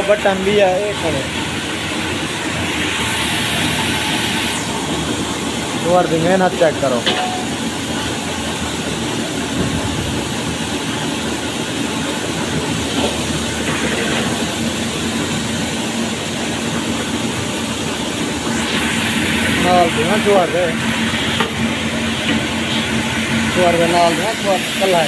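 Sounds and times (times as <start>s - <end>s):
mill machinery running: 0.0s - 25.0s.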